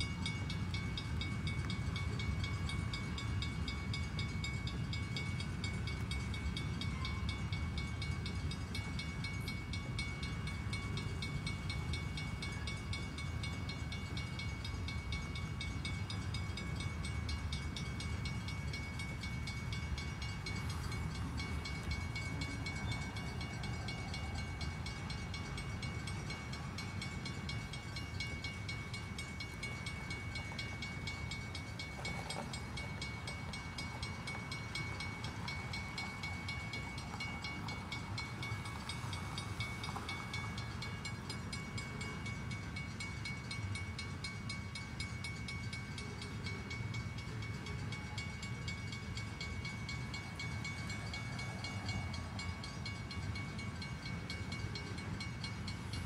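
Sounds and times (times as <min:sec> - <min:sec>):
freight train cars rumbling: 0:00.0 - 0:56.0
high ringing tone: 0:00.0 - 0:56.0.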